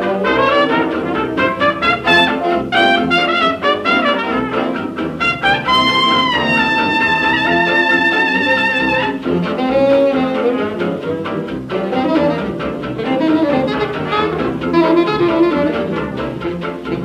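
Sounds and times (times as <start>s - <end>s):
held trumpet note: 0.0s - 17.0s
swing band playing: 0.0s - 17.0s.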